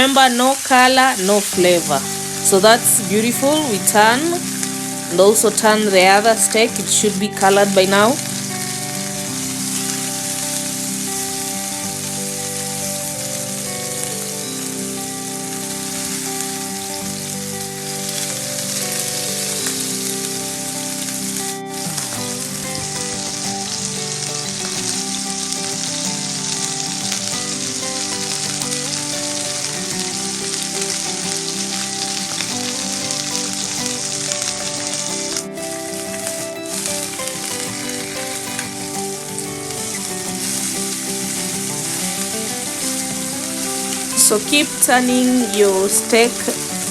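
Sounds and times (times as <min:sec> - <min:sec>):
steaks sizzling in a pan: 0:07.3 - 0:46.9.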